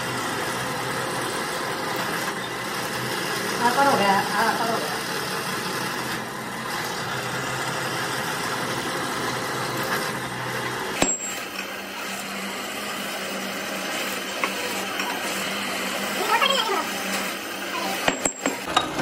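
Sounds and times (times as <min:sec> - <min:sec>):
drill press drilling metal: 0:00.0 - 0:19.0.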